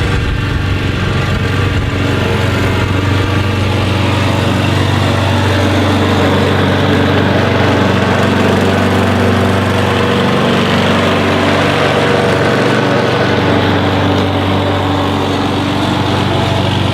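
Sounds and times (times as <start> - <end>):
vehicle engine running steadily: 0.0 - 16.9.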